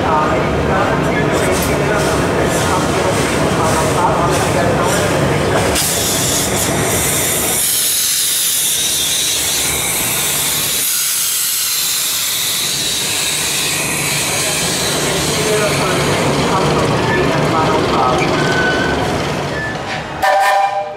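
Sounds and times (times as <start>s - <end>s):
steam locomotive hissing: 1.8s - 19.6s.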